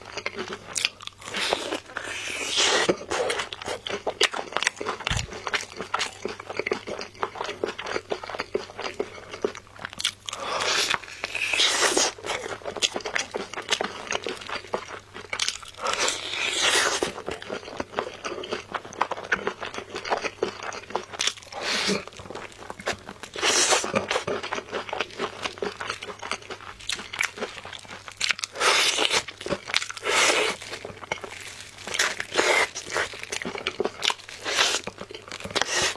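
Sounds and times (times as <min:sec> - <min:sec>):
crunching bites of fried chicken: 0:00.2 - 0:35.9.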